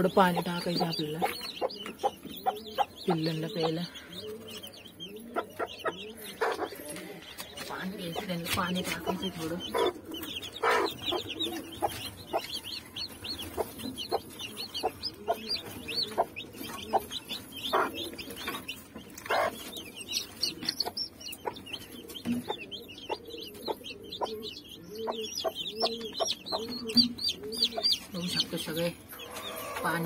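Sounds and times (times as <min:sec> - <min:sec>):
chicks peeping: 0:00.0 - 0:30.0
hen clucking: 0:00.0 - 0:30.0.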